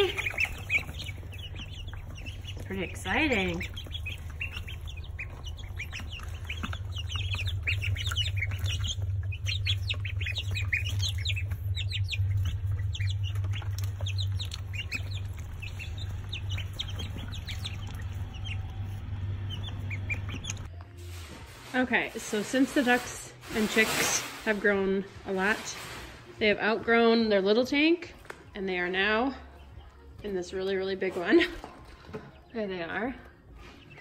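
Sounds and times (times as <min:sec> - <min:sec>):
ducklings and chicks peeping: 0:00.0 - 0:20.7, 0:25.4 - 0:34.0
steady low hum: 0:00.0 - 0:27.6.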